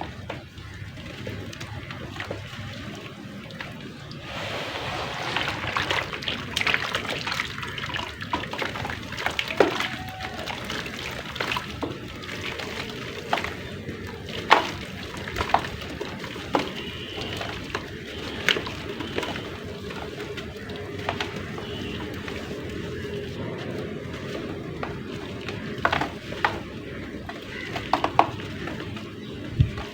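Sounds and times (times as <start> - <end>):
wet clay sloshing and crackling: 0.1 - 29.9.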